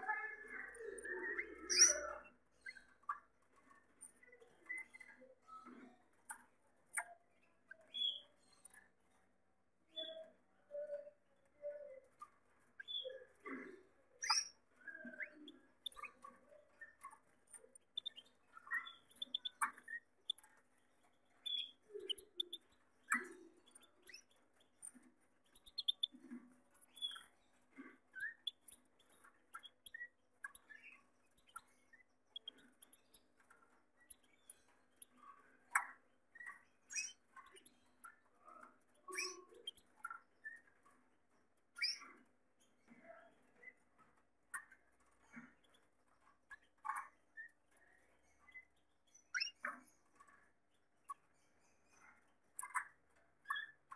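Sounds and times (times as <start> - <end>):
canaries chirping: 0.0 - 53.9.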